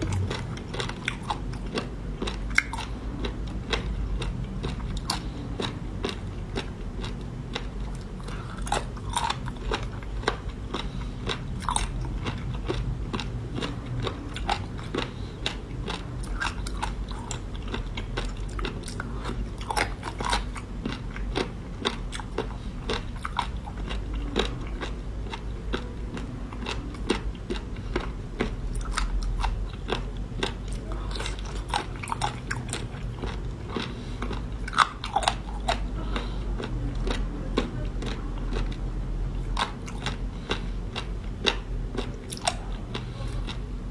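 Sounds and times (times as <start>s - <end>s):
person chewing seafood: 0.0s - 43.9s.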